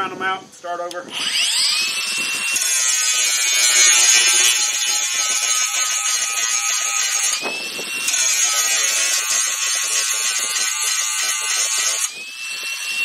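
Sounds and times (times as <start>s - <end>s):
power tool grinding rivets: 1.1s - 13.0s.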